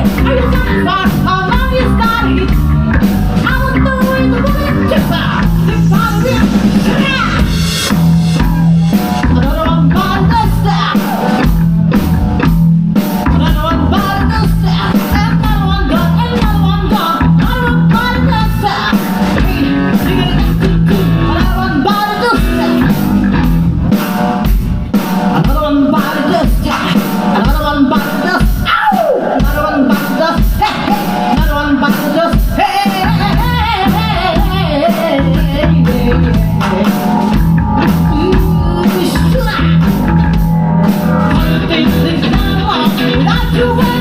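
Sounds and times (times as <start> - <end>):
person singing: 0.0 - 7.6, 8.4 - 11.7, 13.2 - 23.0, 25.3 - 40.4, 41.2 - 44.0
bass guitar: 0.0 - 44.0
drum kit beat: 0.0 - 44.0
electric guitar: 0.0 - 44.0.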